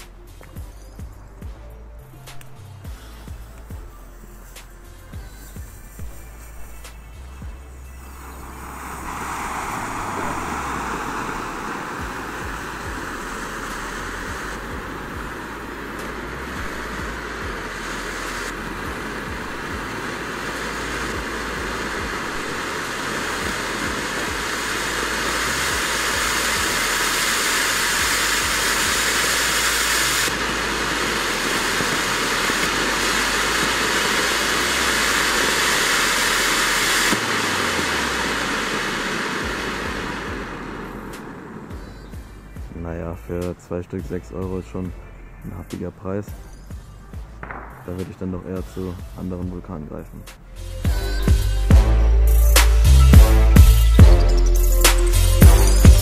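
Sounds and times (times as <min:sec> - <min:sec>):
firework fountain hissing: 0:00.0 - 0:56.0.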